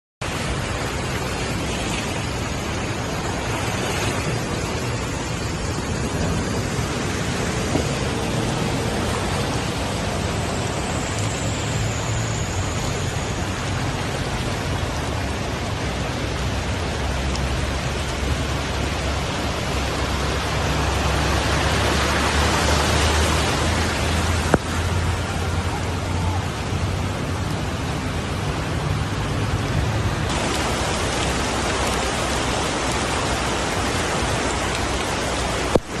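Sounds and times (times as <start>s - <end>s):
floodwater rushing: 0.2s - 36.0s.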